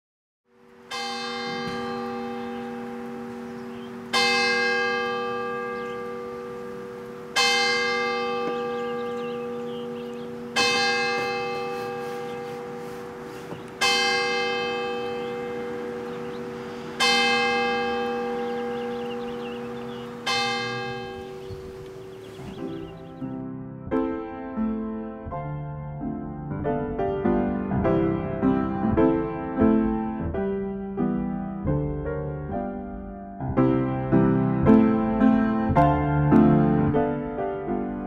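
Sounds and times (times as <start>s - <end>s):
church bell tolling: 0.6s - 32.5s.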